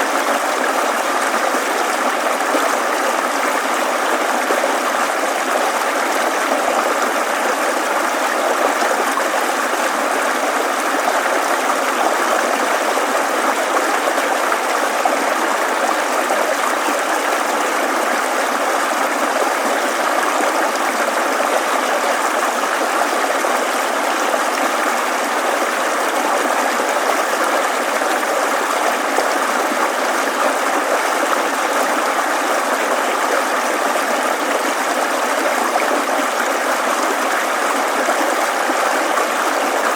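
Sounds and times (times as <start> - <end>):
babbling stream: 0.0 - 39.9.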